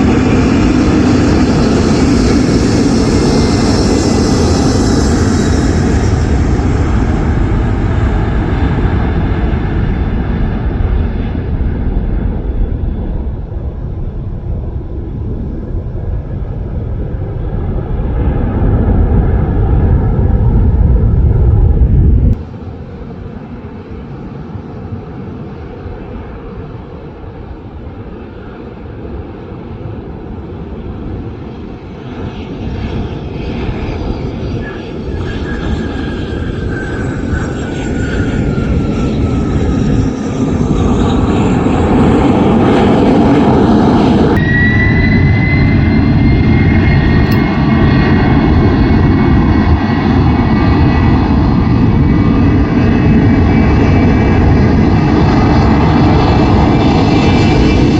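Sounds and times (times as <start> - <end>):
jet engine rumble: 0.0 - 57.9
jet engine whine: 0.0 - 57.9.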